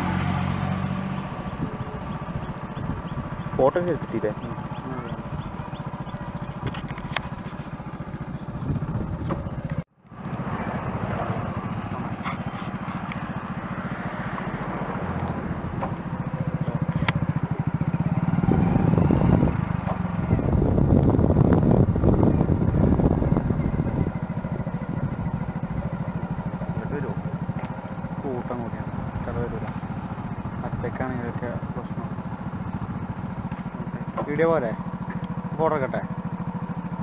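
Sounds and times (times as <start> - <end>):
single-cylinder motorcycle engine running: 0.0 - 37.0.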